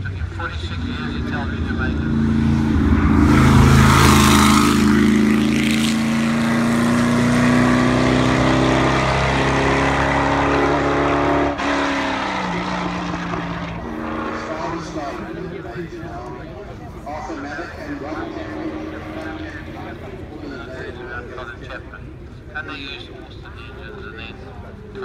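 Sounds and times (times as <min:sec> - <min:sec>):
racing car engine at full throttle: 0:00.0 - 0:25.0.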